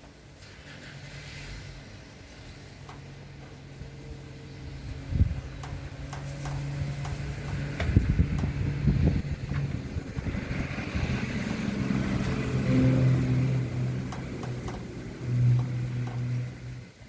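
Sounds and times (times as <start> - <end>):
engine humming: 0.0 - 17.0
wind rumbling on microphone: 0.7 - 17.0.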